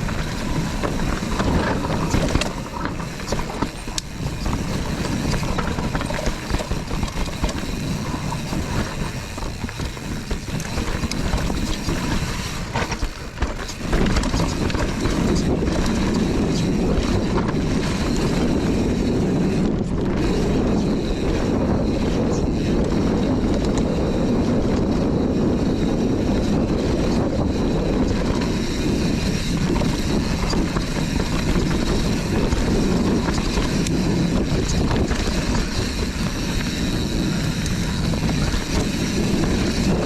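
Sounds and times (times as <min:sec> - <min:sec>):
bike chain and frame clatter: 0:00.0 - 0:40.0
bike tyres rolling over dirt: 0:00.0 - 0:40.0
wind rushing over microphone: 0:00.0 - 0:40.0.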